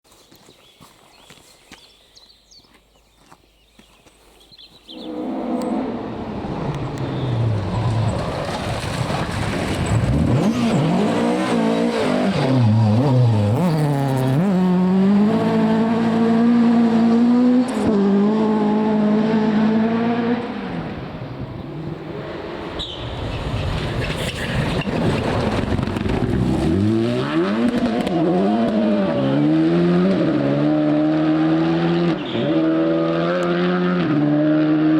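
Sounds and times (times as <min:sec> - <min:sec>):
rally car engine revving: 0:05.0 - 0:34.9.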